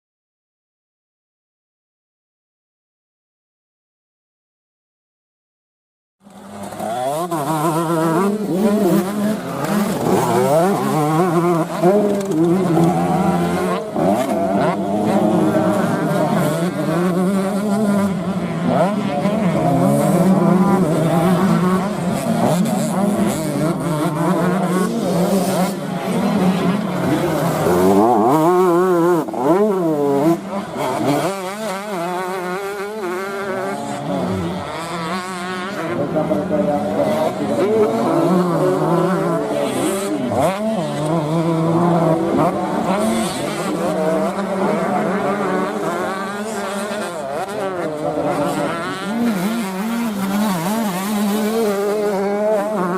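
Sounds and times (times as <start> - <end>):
motocross bike engines revving: 6.2 - 52.9.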